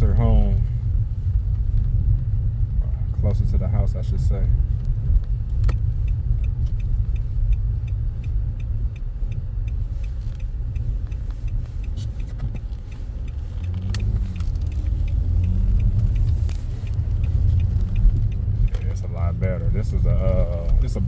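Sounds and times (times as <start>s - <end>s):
car rumble from inside cabin: 0.0s - 21.0s
light regular ticking: 0.0s - 21.0s.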